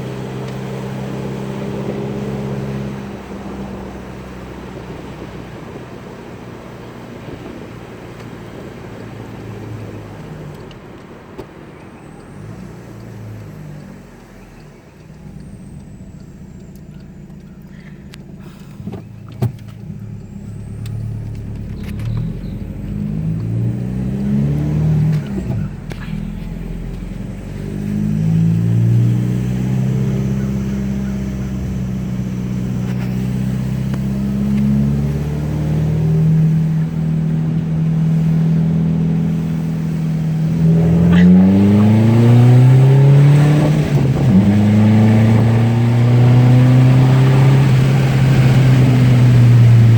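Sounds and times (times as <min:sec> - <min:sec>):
diesel car engine accelerating: 0:00.0 - 0:49.9.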